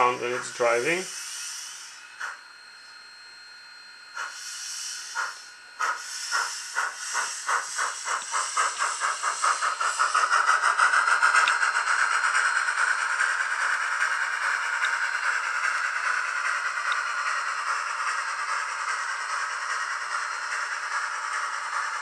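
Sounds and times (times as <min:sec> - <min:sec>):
steady steam hiss: 0:00.0 - 0:02.4, 0:04.2 - 0:22.0
model steam locomotive chuffs: 0:00.0 - 0:03.0, 0:03.7 - 0:22.0.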